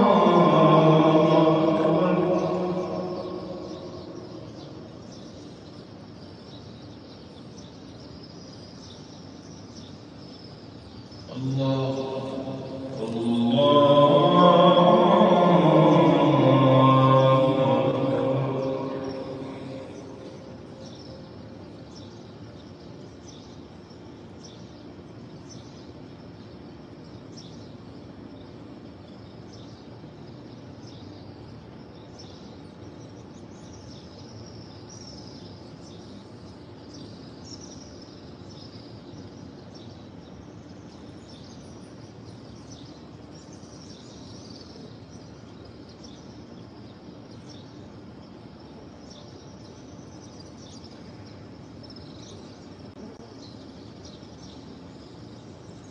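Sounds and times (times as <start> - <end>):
ambient background hum: 0.0 - 55.9
small birds chirping: 0.0 - 55.9.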